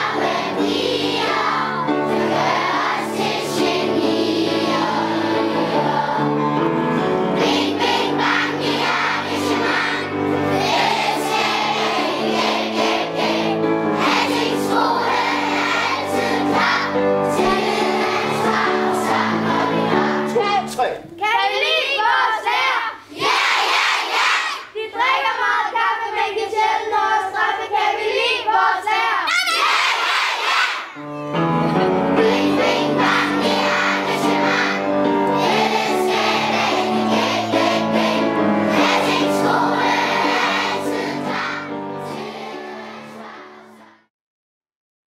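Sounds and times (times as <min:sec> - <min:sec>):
children singing together: 0:00.0 - 0:20.4, 0:21.6 - 0:31.0, 0:32.1 - 0:44.1.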